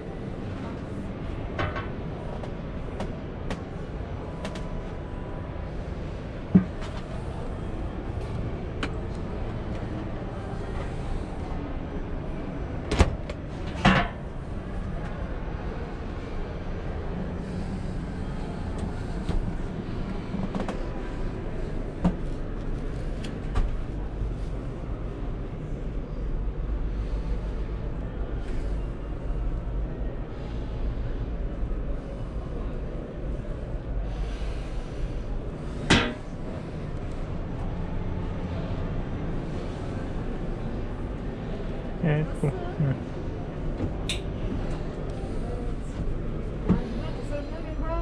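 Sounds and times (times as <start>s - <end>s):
exhibition hall rumble: 0.0s - 48.0s.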